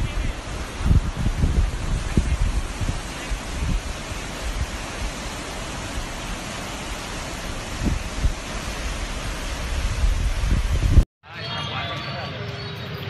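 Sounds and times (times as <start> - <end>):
river floodwater rushing: 0.0 - 11.0.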